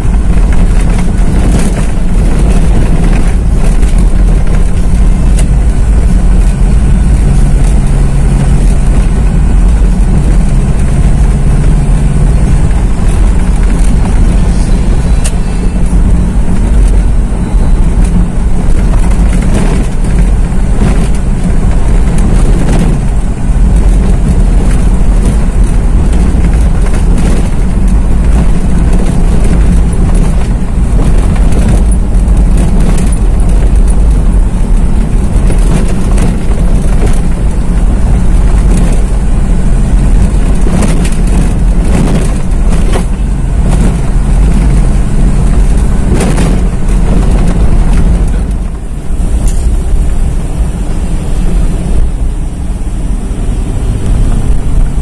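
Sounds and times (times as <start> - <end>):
car engine drone: 0.0 - 55.0
road rumble: 0.0 - 55.0.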